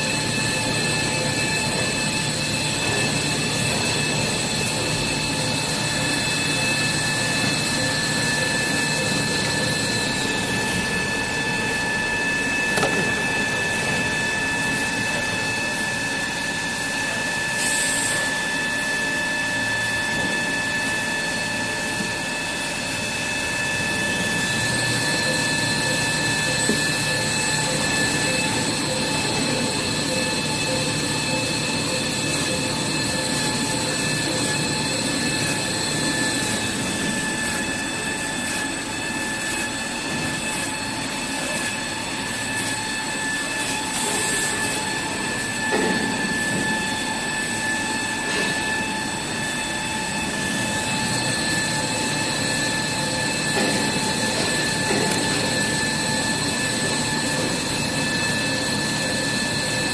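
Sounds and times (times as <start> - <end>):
machinery running: 0.0 - 17.4, 21.6 - 59.9
high steady machine whines: 0.0 - 59.9.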